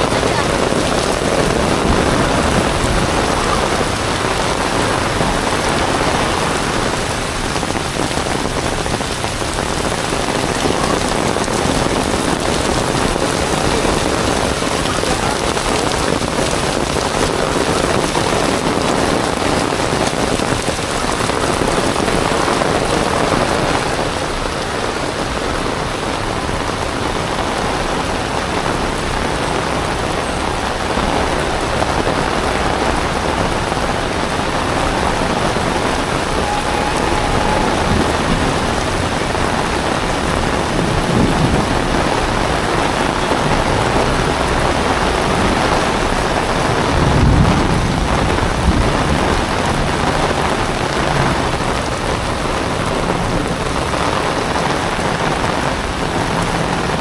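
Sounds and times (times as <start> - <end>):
heavy rain on pavement: 0.0 - 57.0.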